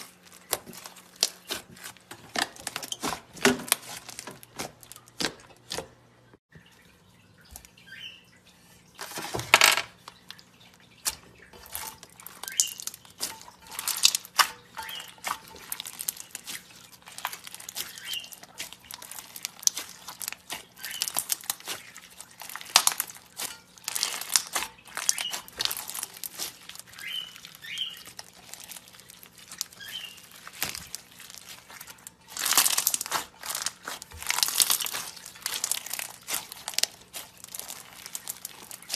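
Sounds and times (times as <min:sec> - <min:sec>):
slime crackling and popping: 0:00.0 - 0:05.8, 0:11.0 - 0:38.9.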